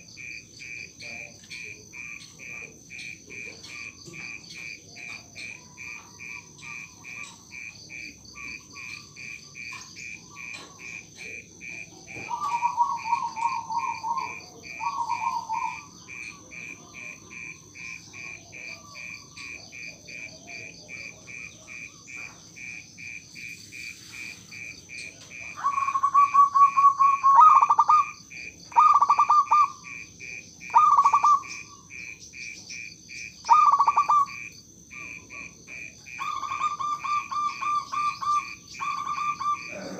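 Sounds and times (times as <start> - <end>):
steady high chirping: 0.0 - 39.9
dove cooing: 3.3 - 22.8, 24.1 - 30.0, 30.7 - 31.9, 33.4 - 39.9.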